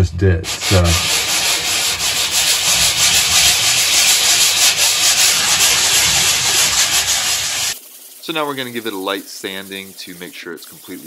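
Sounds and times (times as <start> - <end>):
sanding sponge on drywall: 0.5 - 11.0.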